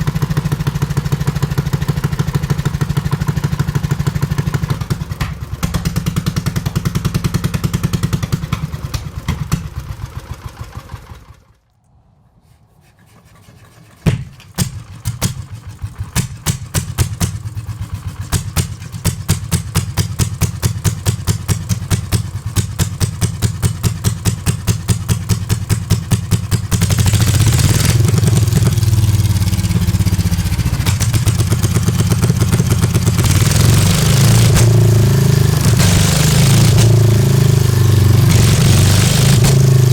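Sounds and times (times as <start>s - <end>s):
small engine running: 0.0s - 11.6s, 14.7s - 39.9s.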